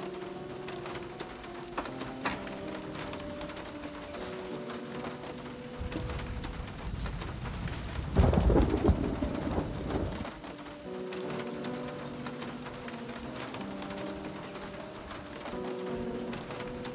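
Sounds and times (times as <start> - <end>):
steady rain: 0.0 - 16.9
thunder rumbling: 0.0 - 16.9.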